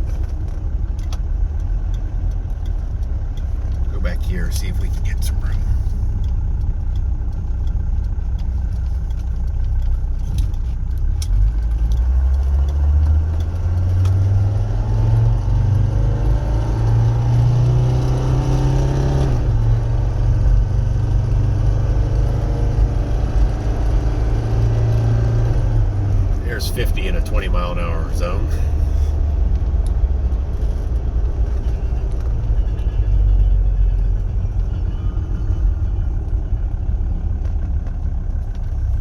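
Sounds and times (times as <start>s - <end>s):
diesel car engine accelerating: 0.0s - 39.0s.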